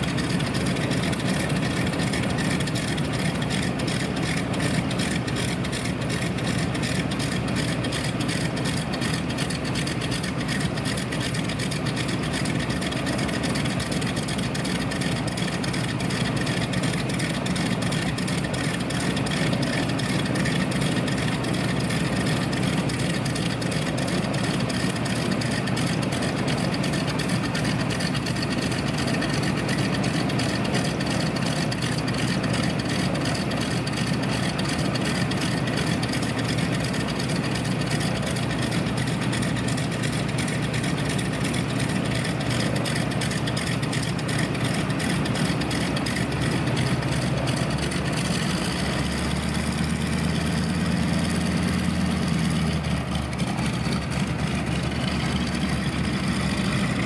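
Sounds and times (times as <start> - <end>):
aircraft engines idling: 0.0 - 57.0.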